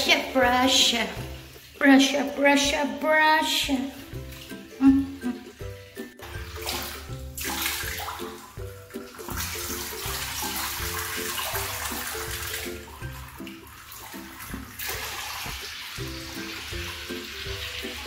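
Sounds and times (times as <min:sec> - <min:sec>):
mellow background music: 0:00.0 - 0:18.0
water rushing from a hose: 0:00.1 - 0:02.4, 0:03.7 - 0:18.0.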